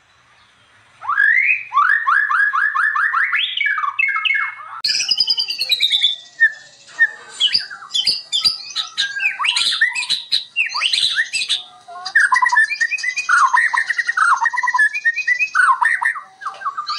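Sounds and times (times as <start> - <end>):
bird singing with whistles and clicks: 1.0 - 16.9.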